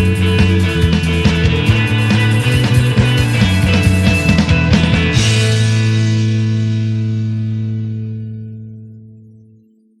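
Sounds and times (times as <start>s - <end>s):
electric guitar and bass chord: 0.0s - 9.5s.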